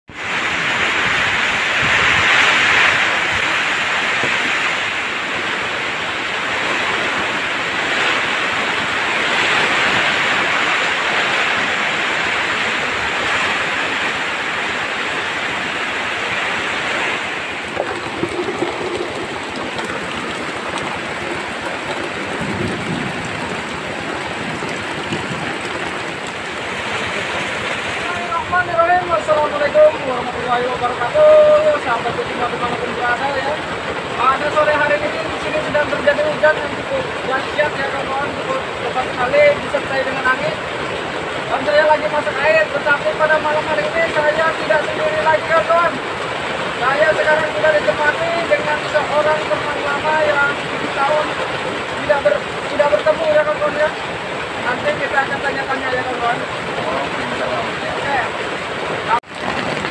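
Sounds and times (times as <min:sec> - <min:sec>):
heavy rain on trees and leaves: 0:00.1 - 0:59.9.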